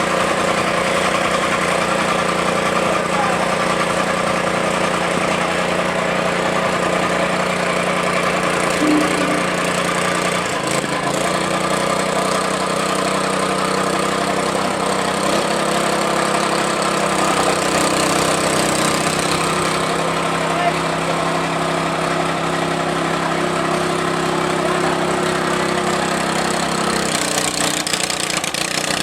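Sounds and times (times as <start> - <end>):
small petrol engine running: 0.0 - 9.8, 10.7 - 29.0.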